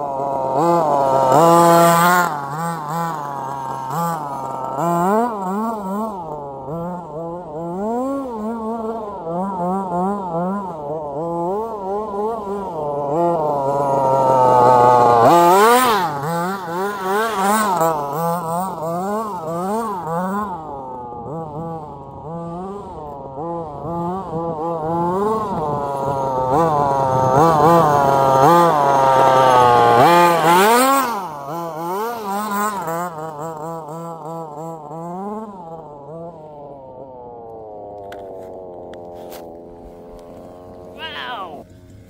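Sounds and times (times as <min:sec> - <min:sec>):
small two-stroke engine revving: 0:00.0 - 0:42.0.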